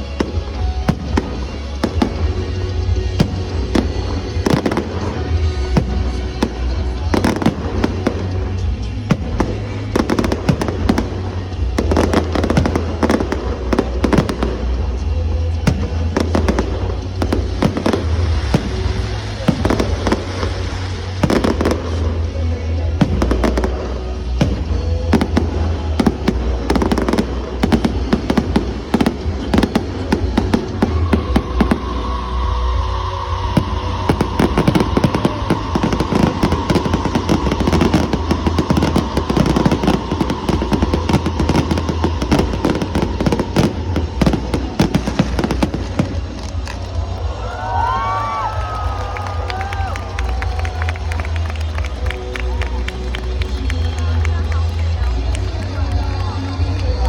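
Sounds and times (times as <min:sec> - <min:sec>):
fireworks bursting and crackling: 0:00.0 - 0:57.0
music playing: 0:00.0 - 0:57.0.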